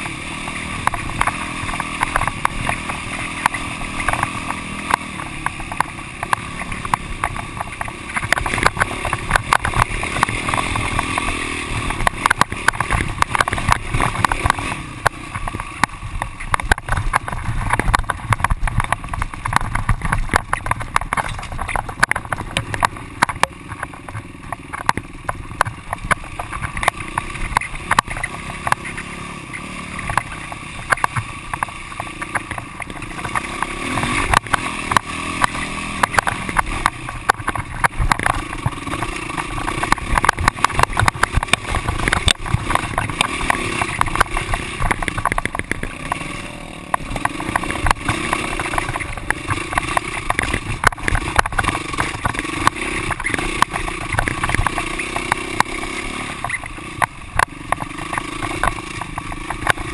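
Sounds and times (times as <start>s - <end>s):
dirt bike engine running: 0.0s - 59.9s
knocks and rattles of bike: 0.0s - 59.9s.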